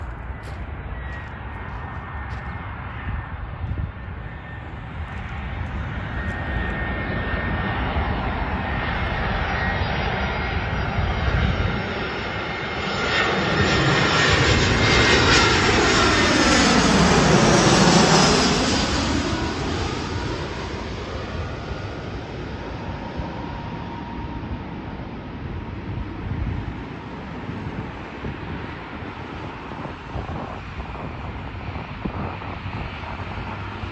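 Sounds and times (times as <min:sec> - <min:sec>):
jet airliner flying over: 0:00.0 - 0:33.9.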